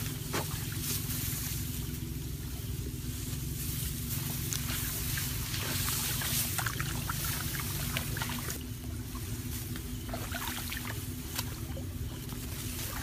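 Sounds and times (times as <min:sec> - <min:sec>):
water splashing and trickling: 0:00.0 - 0:01.8, 0:04.3 - 0:13.0
steady low hum: 0:00.0 - 0:13.0.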